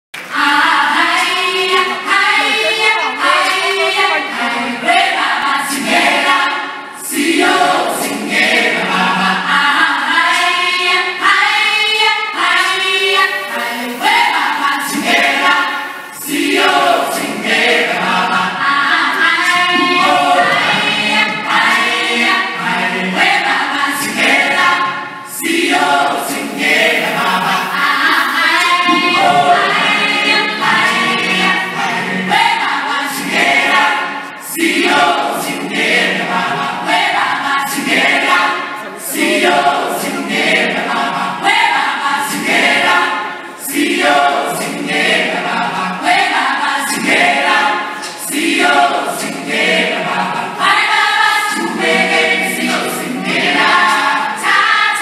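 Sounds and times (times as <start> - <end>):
choir singing in harmony: 0.2 - 55.0.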